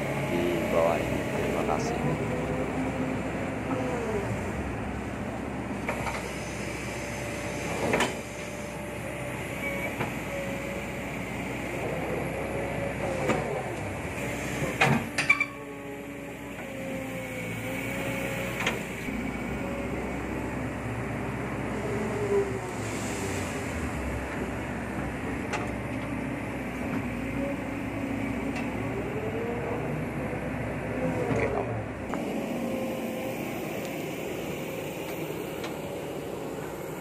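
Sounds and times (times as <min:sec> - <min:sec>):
excavator engine and hydraulics: 0:00.0 - 0:37.0
hydraulic whine: 0:00.0 - 0:37.0.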